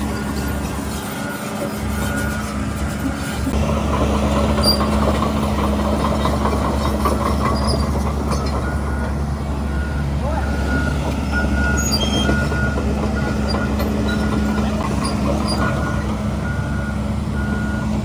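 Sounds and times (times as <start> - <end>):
squeaky clatter of steel tracks: 0.0 - 9.4, 10.5 - 16.8
bulldozer diesel engine droning: 0.0 - 18.0.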